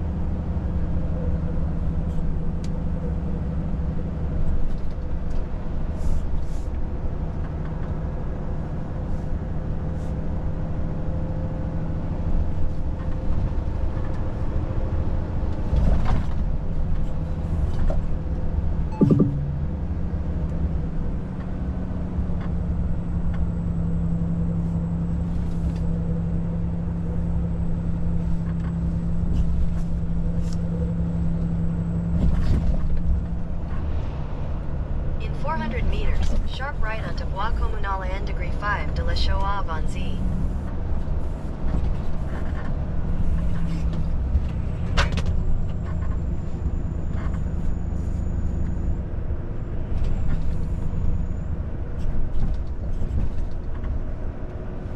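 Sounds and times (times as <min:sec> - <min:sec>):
road rumble: 0:00.0 - 0:54.9
truck diesel engine cruising: 0:00.0 - 0:54.9.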